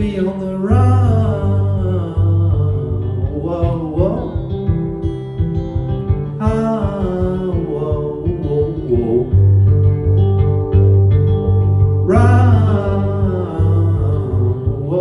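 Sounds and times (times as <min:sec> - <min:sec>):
live band playing country-rock: 0:02.7 - 0:15.0.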